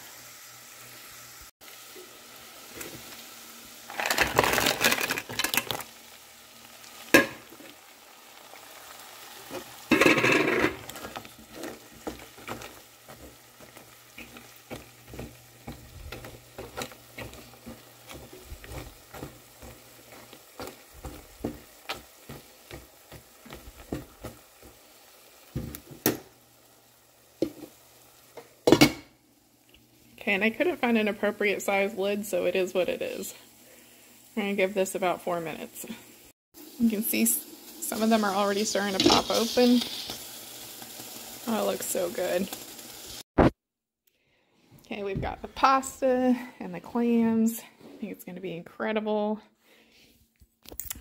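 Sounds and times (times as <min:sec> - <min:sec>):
clams sizzling in a pan: 0:00.0 - 0:43.3
frying hiss: 0:00.0 - 0:43.3.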